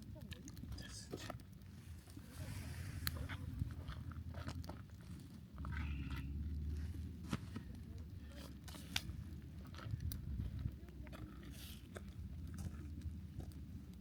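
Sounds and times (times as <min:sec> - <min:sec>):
campfire crackling: 0:00.0 - 0:14.0
low steady rumble: 0:00.0 - 0:14.0.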